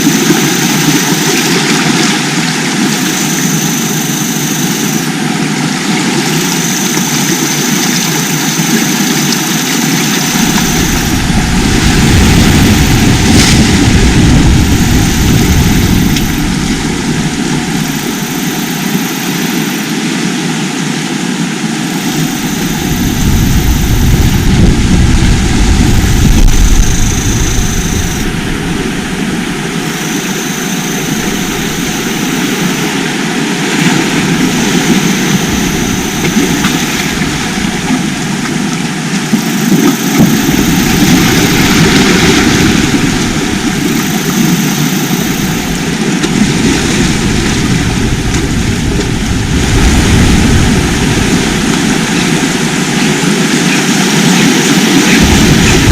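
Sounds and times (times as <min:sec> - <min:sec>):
sea waves breaking: 0:00.0 - 0:55.9.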